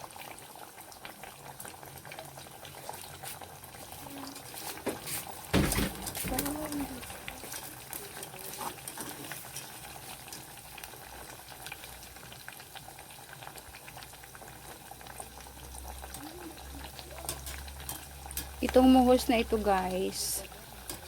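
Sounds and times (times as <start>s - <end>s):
potatoes deep-frying in oil: 0.0s - 21.0s.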